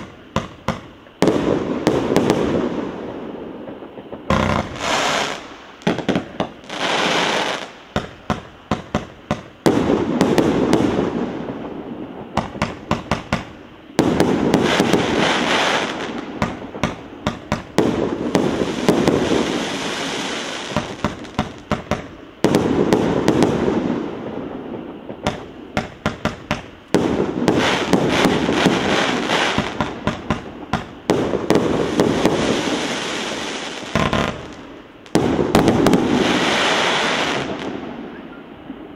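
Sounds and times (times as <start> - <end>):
fireworks crackle: 0.0 - 38.9
fireworks shots: 0.0 - 38.9.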